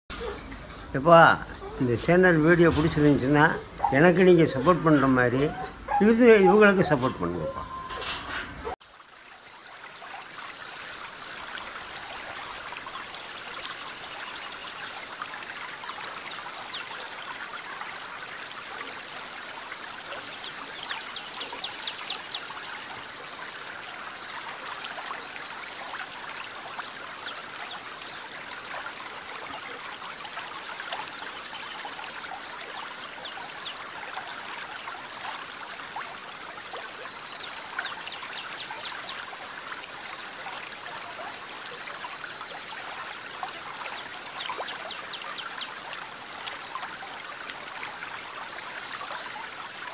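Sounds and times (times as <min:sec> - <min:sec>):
flowing water rushing: 0:00.1 - 0:49.9.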